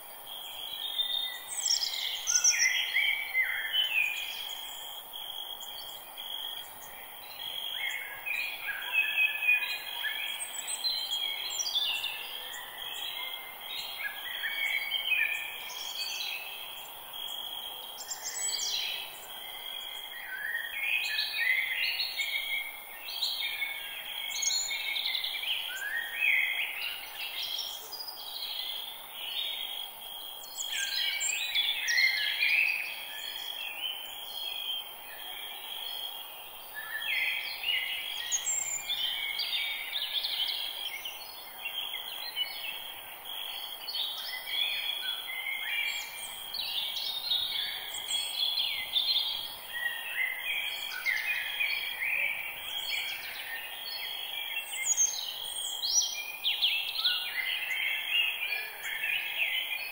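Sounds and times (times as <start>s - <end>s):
forest birds singing: 0.0s - 59.9s.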